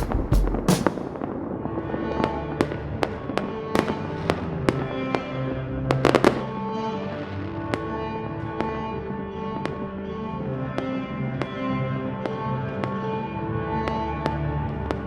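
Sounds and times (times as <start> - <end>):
music with held notes: 0.0 - 15.0.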